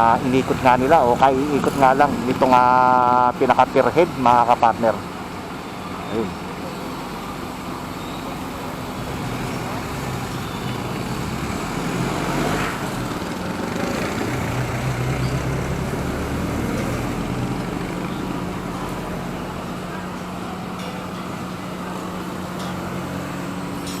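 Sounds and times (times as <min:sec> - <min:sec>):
steady traffic hum: 0:00.0 - 0:24.0
vehicle engines passing: 0:00.0 - 0:24.0.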